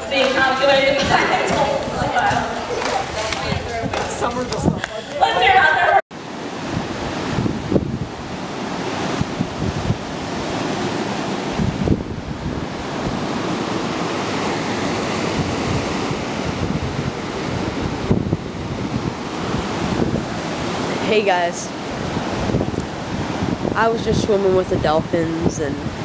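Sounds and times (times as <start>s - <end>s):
low wind buffets: 0.0s - 26.0s
wind blowing across microphone: 0.0s - 26.0s.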